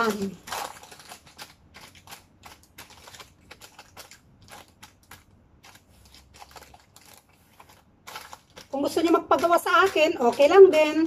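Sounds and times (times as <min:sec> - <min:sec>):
spatula clicks and scrapes: 0:00.0 - 0:11.0.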